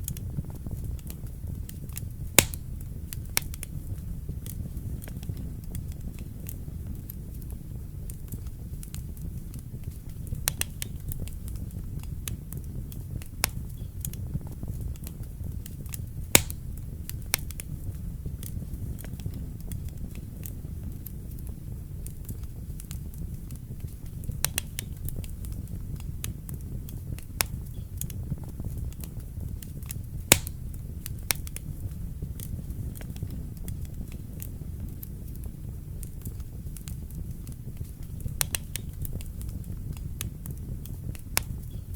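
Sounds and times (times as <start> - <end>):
fire flames rumbling: 0.0 - 41.9
wood fire crackling and popping: 0.0 - 41.9.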